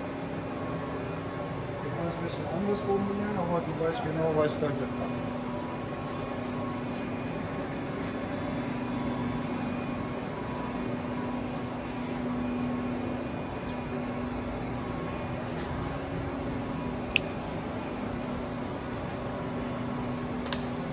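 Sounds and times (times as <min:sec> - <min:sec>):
machine hum: 0:00.0 - 0:20.9.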